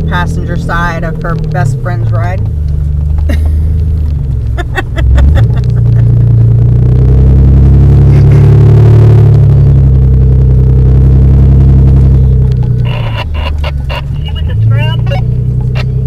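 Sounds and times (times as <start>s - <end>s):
off-road vehicle engine drone: 0.0s - 16.0s.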